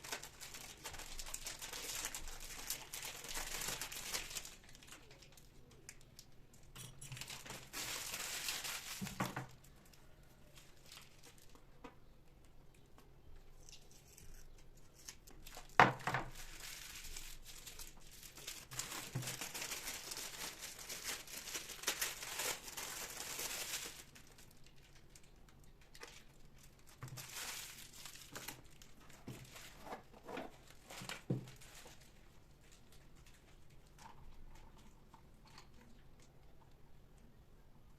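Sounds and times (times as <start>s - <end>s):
packaging crinkling and tearing: 0.0s - 11.8s, 13.6s - 34.9s.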